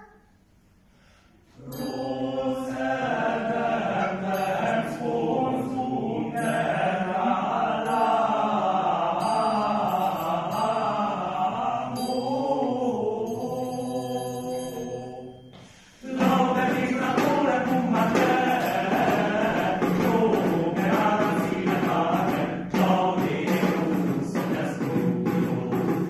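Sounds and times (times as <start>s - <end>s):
men's choir singing: 1.6s - 26.0s.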